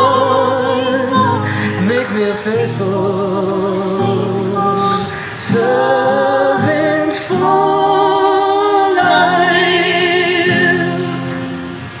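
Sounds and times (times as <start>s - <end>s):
two voices singing a duet: 0.0s - 12.0s.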